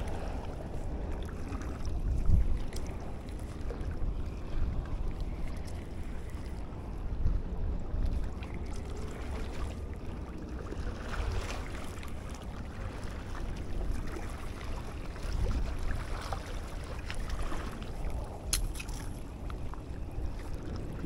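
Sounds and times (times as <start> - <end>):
open water: 0.0 - 21.0
wind rumble on microphone: 0.0 - 21.0.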